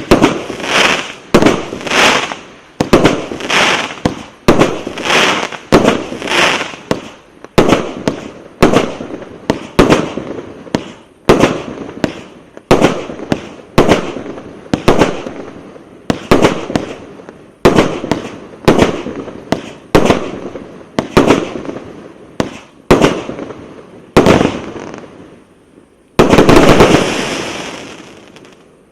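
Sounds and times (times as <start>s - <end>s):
firework bangs: 0.0s - 25.2s, 26.2s - 28.6s.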